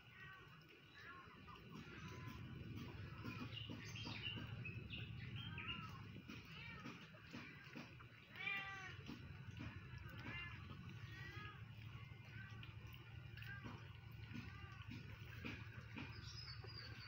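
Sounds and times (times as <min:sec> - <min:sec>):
cats meowing: 0:00.0 - 0:16.0.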